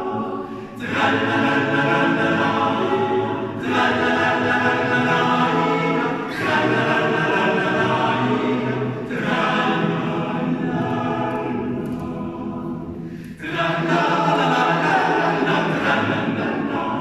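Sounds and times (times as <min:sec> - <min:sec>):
male choir singing a cappella: 0:00.0 - 0:17.0.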